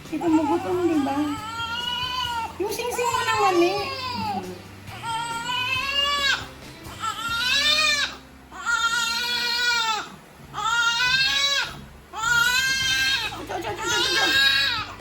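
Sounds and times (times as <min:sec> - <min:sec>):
baby crying: 0:00.2 - 0:15.0.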